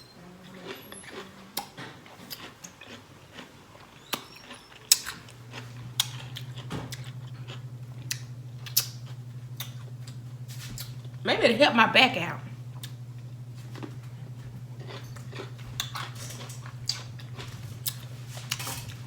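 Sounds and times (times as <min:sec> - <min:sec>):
low steady hum: 0:00.0 - 0:19.0
crunching and chewing pickle: 0:00.2 - 0:11.2, 0:12.8 - 0:19.0.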